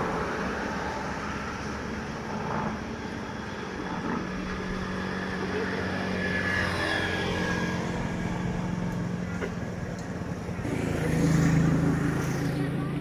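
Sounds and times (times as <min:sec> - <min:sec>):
motor engine running: 0:02.2 - 0:13.0.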